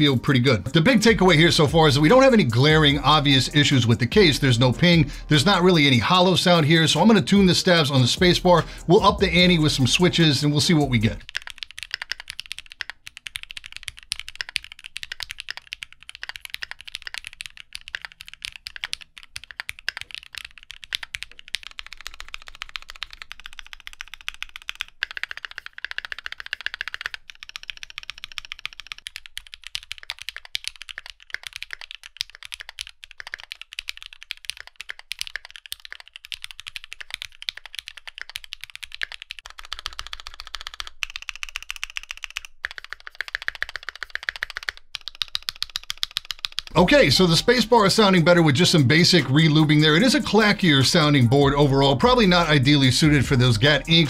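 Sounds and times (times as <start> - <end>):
mechanical keyboard typing: 0.0 - 8.2, 9.9 - 54.0.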